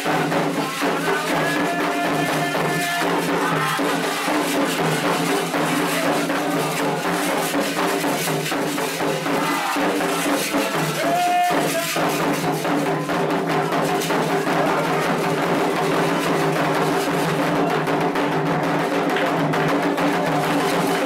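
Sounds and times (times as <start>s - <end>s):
hand drums beating fast: 0.0s - 21.0s
rattling percussion: 0.0s - 21.0s.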